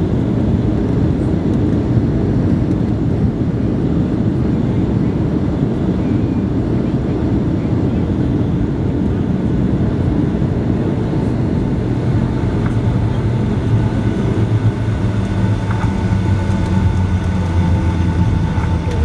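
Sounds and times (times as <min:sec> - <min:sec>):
jet engines and wheels rumbling: 0:00.0 - 0:19.0.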